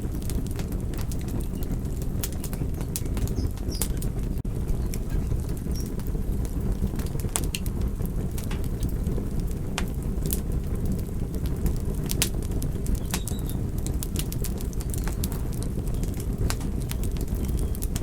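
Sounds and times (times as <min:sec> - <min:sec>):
campfire flames rushing: 0:00.0 - 0:18.0
wood crackling and popping: 0:00.0 - 0:18.0.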